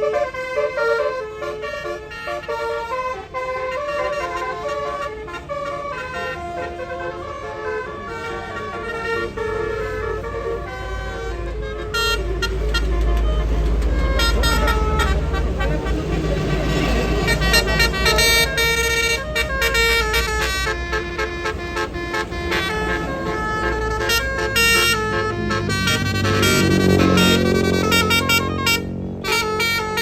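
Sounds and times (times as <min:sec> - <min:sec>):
bus engine rumble: 0:00.0 - 0:30.0
bus horn playing a melody: 0:00.0 - 0:30.0.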